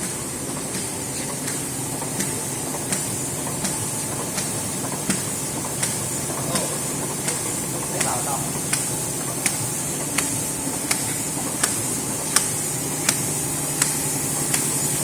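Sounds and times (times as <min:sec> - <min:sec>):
sharp machine clicks: 0:00.0 - 0:14.8
bag sealing machine hissing: 0:00.0 - 0:15.0.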